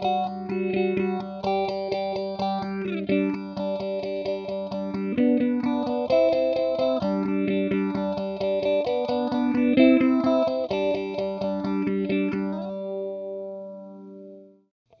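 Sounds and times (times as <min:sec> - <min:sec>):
electric guitar chords with phaser: 0:00.0 - 0:14.6.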